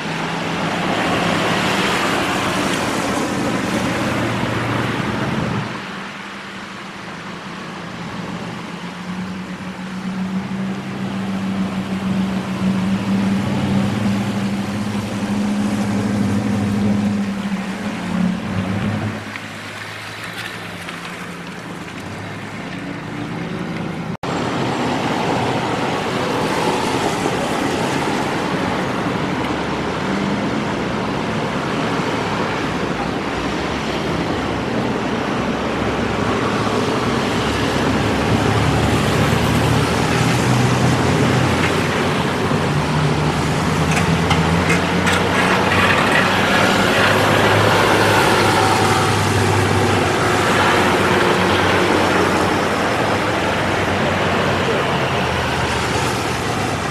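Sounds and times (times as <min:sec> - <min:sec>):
car engines humming: 0:00.0 - 0:56.9
tyres splashing through floodwater: 0:00.0 - 0:56.9.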